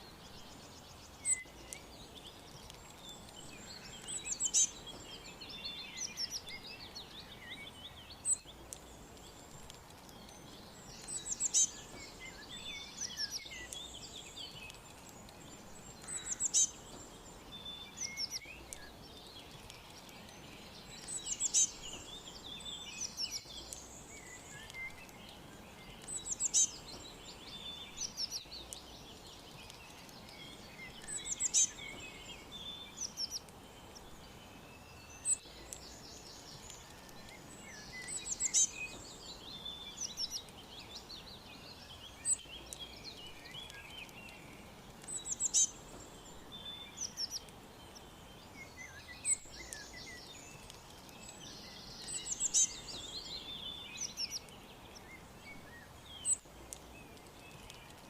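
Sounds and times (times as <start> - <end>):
songbirds chirping and trilling: 0.0 - 58.0
steady background hiss: 0.0 - 58.0.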